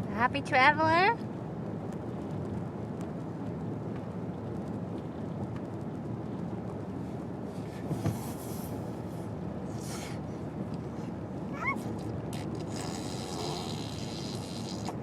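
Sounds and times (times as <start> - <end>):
car cabin road noise: 0.3 - 12.8.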